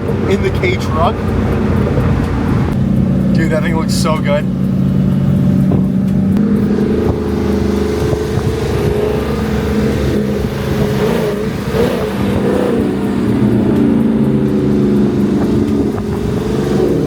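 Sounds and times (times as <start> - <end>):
car engines droning: 0.0 - 17.0.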